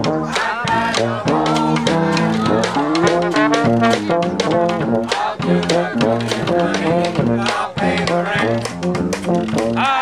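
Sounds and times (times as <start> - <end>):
marching brass band: 0.0 - 10.0
steady drum beat: 0.0 - 10.0.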